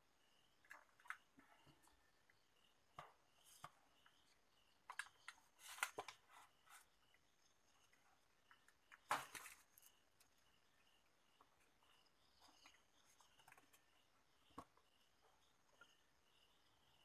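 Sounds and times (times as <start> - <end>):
faint clicks and scratches: 0.4 - 16.2.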